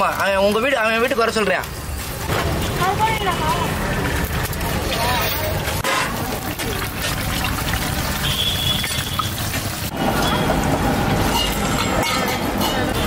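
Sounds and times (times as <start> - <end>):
deep-frying in hot oil sizzle: 0.0 - 13.0
faint street noise: 0.0 - 13.0.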